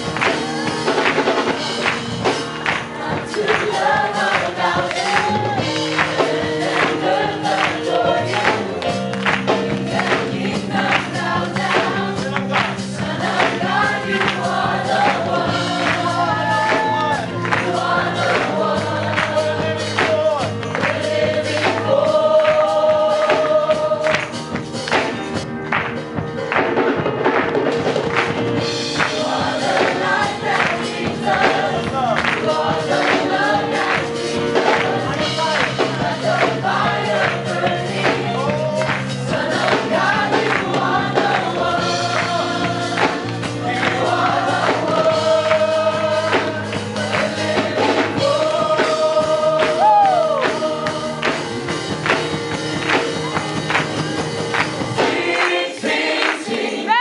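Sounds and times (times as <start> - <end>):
choir singing gospel song: 0.0 - 25.4, 27.6 - 57.0
band with bass and percussion: 0.0 - 55.5.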